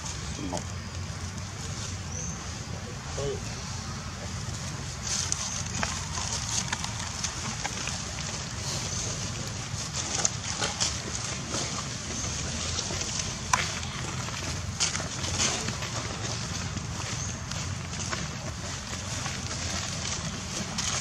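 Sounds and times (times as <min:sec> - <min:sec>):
dry leaves crackling underfoot: 0:00.0 - 0:21.0
low outdoor rumble: 0:00.0 - 0:21.0.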